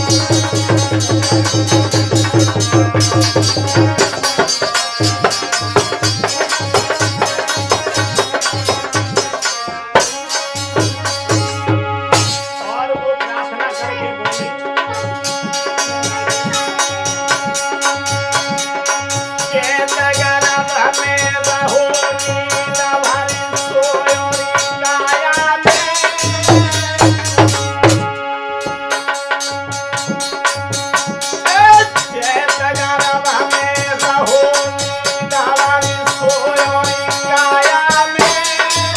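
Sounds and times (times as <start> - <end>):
dholak drum beat: 0.0 - 38.9
harmonium chords: 0.0 - 38.9.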